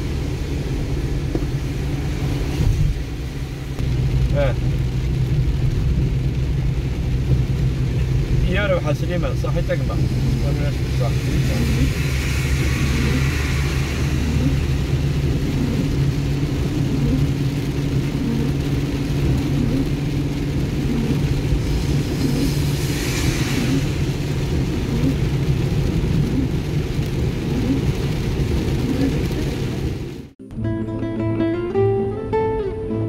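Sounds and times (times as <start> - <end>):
tyre hiss on wet road: 0.0 - 19.2, 20.2 - 30.1
car engine and tyre drone: 0.0 - 30.4.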